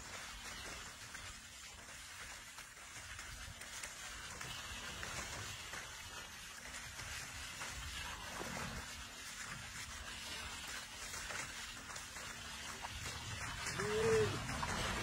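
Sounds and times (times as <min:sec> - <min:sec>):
splashing in muddy water: 0:00.0 - 0:15.0.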